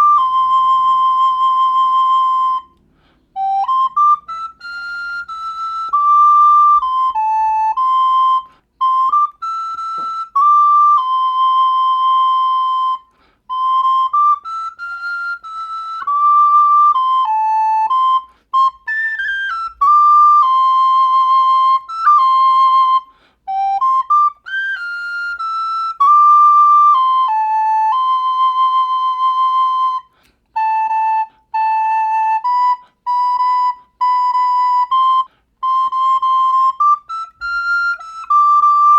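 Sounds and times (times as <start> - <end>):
recorder playing slow melody: 0.0 - 38.9.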